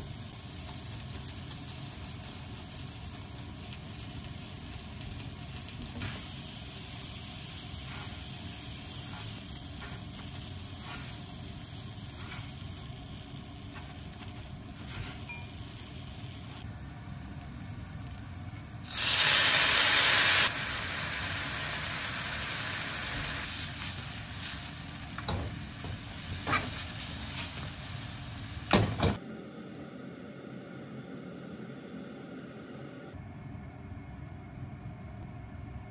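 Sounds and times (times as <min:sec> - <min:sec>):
frying pan sizzling: 0:00.0 - 0:29.2.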